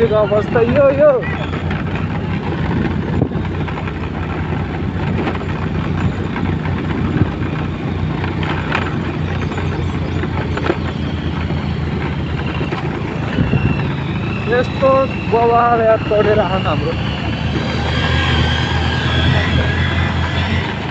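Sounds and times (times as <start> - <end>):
motorcycle engine running: 0.0 - 20.9
road and wind noise: 0.0 - 20.9.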